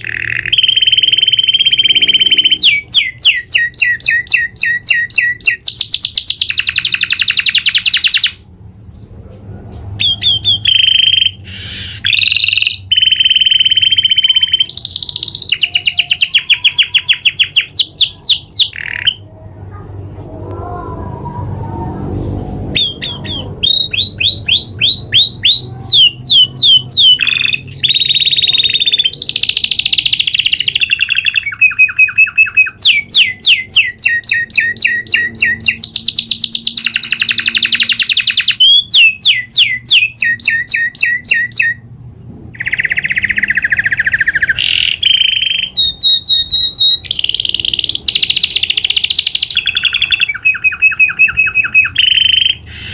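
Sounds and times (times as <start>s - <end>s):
canary singing trills: 0.0s - 41.9s, 42.5s - 52.9s.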